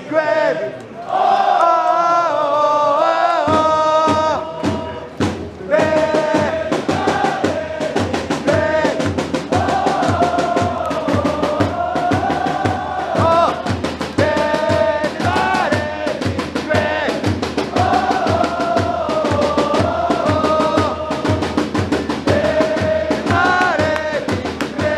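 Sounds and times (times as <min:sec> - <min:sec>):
crowd chanting in unison: 0:00.0 - 0:24.9
drum beat: 0:03.4 - 0:24.9.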